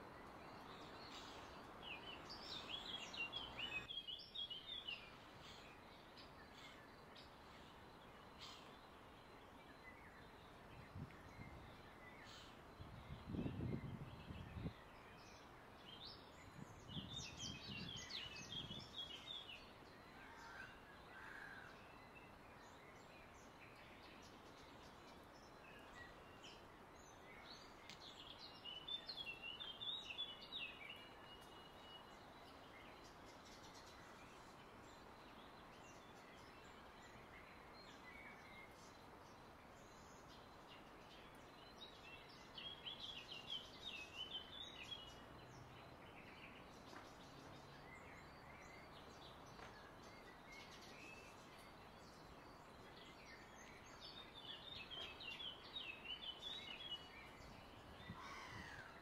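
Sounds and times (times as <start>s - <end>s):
faint background noise: 0.0s - 59.0s.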